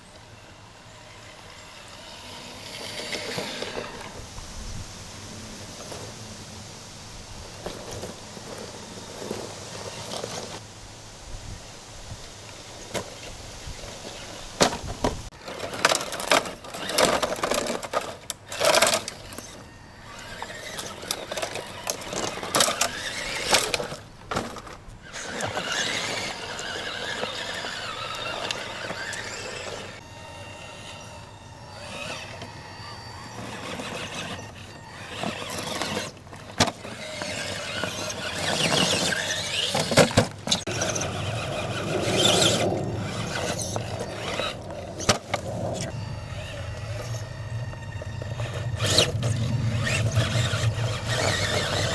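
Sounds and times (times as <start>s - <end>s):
electric motor whining: 0.0s - 4.5s, 14.0s - 51.9s.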